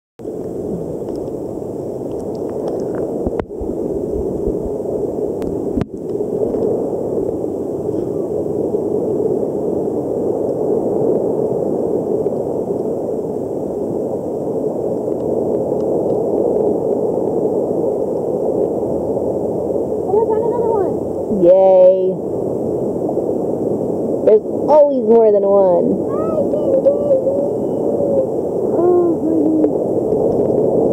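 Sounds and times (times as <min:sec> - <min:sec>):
muffled underwater water rushing: 0:00.2 - 0:30.9.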